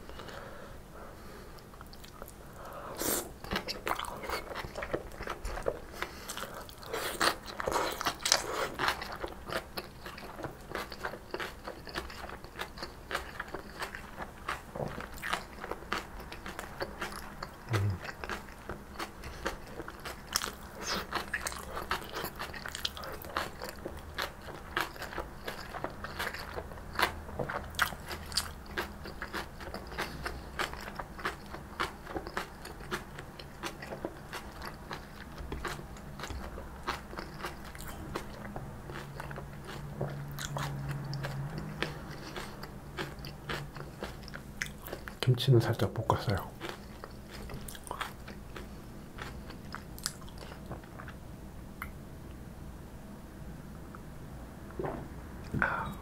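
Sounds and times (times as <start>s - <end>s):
chewing crunchy food: 1.6s - 51.2s.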